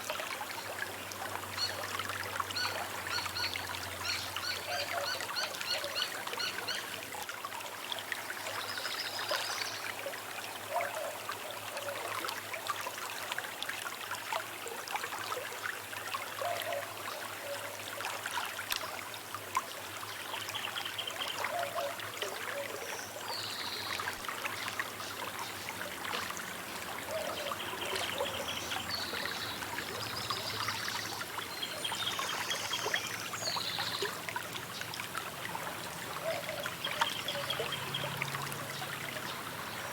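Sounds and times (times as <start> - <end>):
small river babbling: 0.0 - 39.9.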